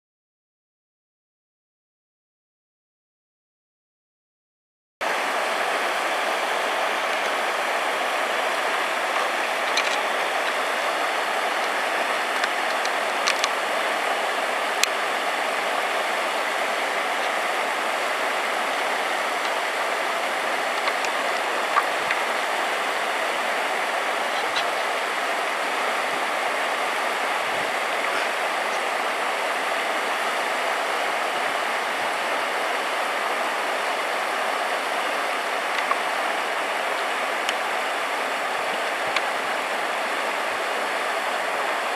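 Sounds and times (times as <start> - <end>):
flowing water rushing: 5.0 - 41.9.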